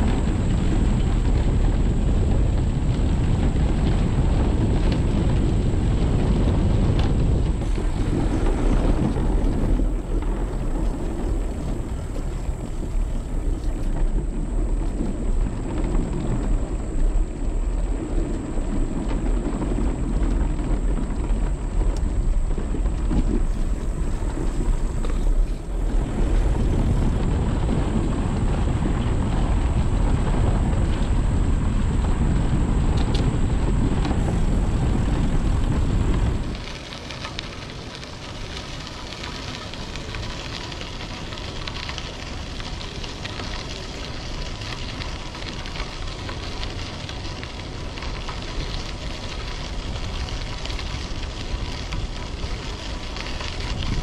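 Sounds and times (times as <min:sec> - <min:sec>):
bike tyres rolling on wooden planks: 0:00.0 - 0:54.0
wind rushing over microphone: 0:00.0 - 0:54.0.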